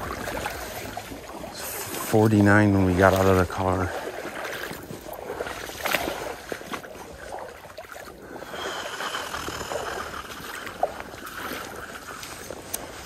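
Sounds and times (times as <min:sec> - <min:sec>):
water splashing around wading legs: 0:00.0 - 0:13.0.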